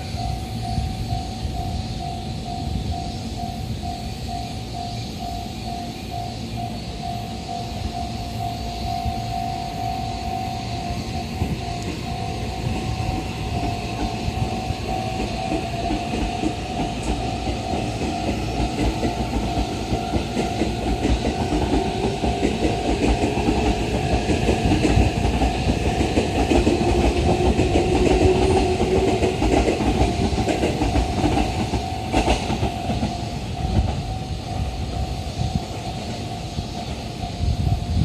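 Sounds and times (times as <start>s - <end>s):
cicadas droning: 0.0s - 38.0s
train wheels clattering: 0.0s - 38.0s.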